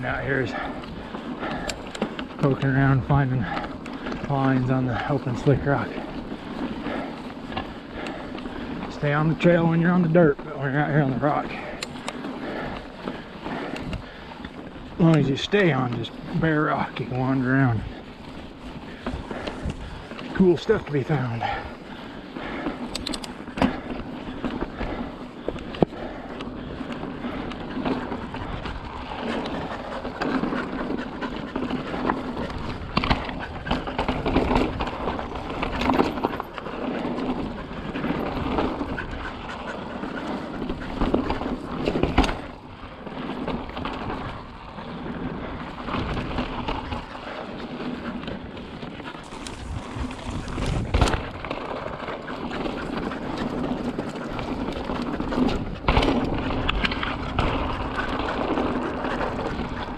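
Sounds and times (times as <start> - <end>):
bike knocking and rattling: 0.0 - 59.9
tyre and wind noise: 0.0 - 59.9.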